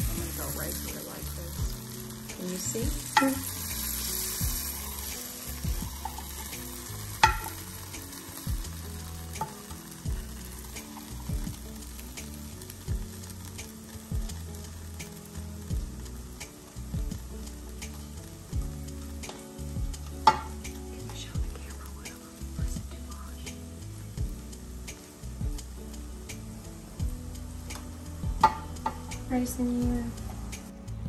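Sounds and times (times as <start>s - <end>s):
vegetables sizzling in a pan: 0.0s - 31.0s.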